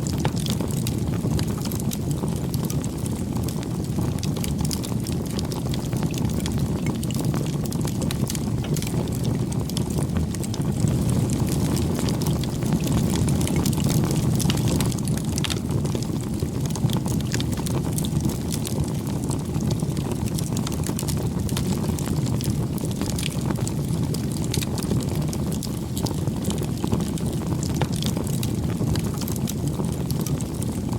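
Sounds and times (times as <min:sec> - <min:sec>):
burning wood crackling and popping: 0:00.0 - 0:30.9
rush of flames: 0:00.0 - 0:30.9.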